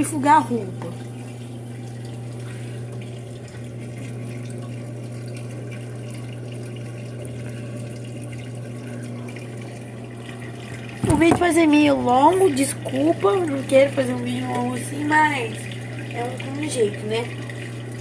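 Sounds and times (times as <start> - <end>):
drain pump humming: 0.0 - 18.0
water flowing out: 0.0 - 18.0.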